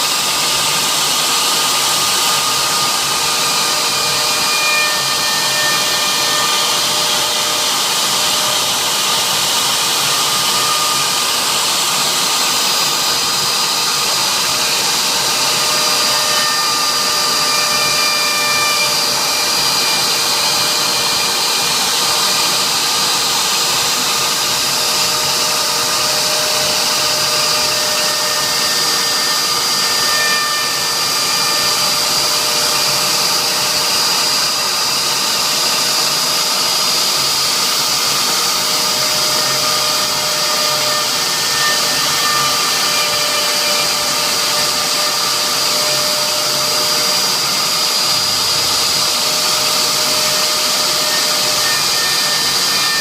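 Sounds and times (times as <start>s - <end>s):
router spindle rushing: 0.0s - 53.0s.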